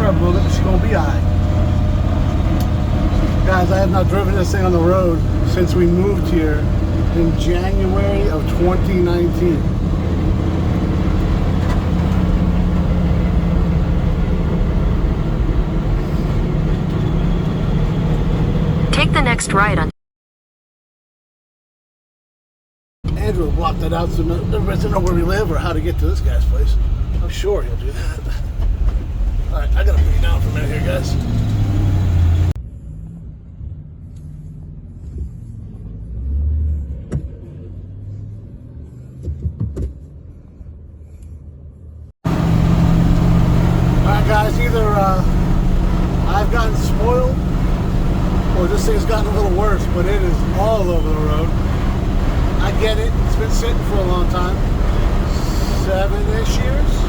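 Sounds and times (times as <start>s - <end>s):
engine and road noise drone: 0.0s - 19.9s, 23.1s - 57.0s.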